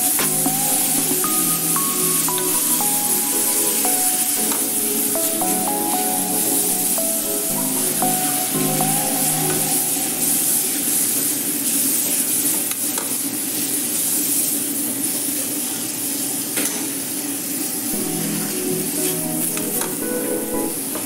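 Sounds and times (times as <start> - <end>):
greens sizzling in a pan: 0.2 - 20.4.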